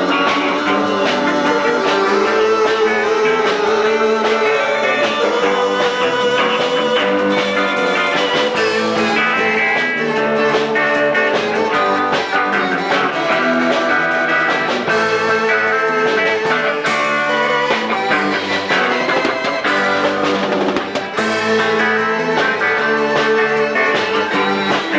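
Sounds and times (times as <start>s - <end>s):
bass guitar: 0.0s - 24.9s
drums: 0.0s - 24.9s
electric guitar: 0.0s - 24.9s.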